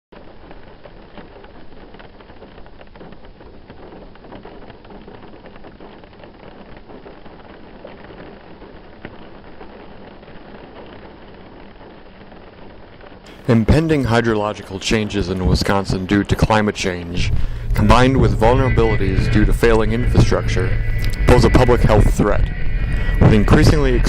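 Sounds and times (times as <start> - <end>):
rain pattering: 0.1 - 24.0.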